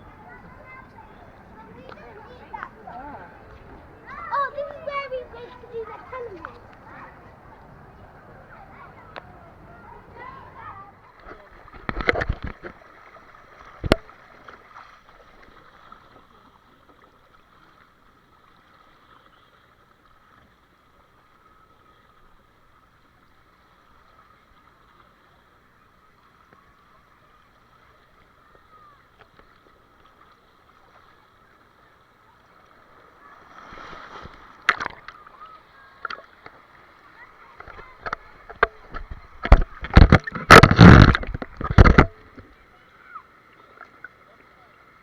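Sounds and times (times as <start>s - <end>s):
faint watery background noise: 0.0s - 45.0s.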